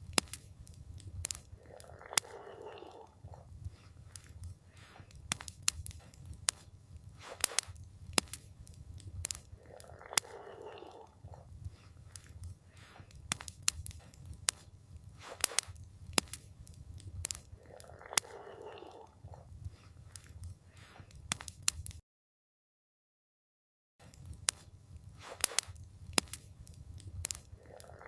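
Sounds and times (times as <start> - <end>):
campfire crackling: 0.0 - 22.0, 24.0 - 28.0.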